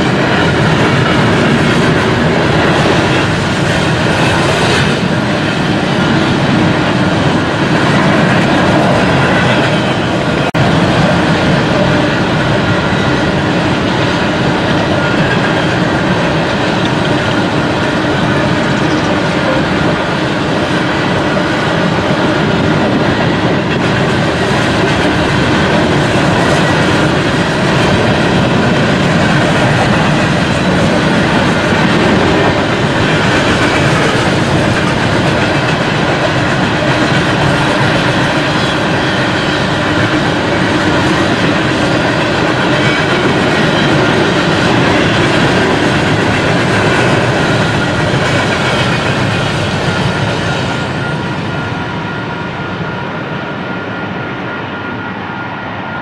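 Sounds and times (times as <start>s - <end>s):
clickety-clack over rail joints: 0.0s - 53.1s
train wheels rumbling on rails: 0.0s - 56.0s.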